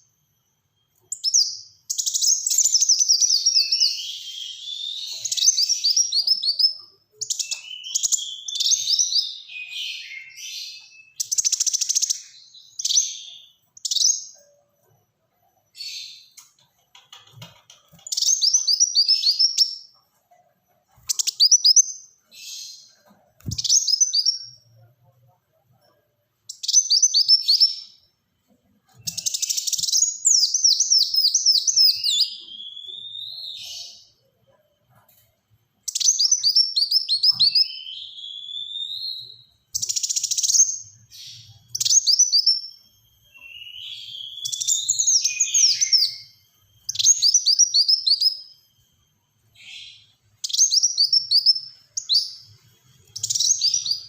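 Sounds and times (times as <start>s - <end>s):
sunbird singing: 0.0s - 34.8s, 35.8s - 54.0s.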